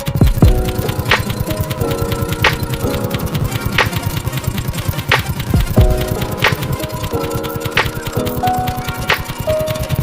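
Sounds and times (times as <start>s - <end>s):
music with synth notes: 0.0s - 10.0s.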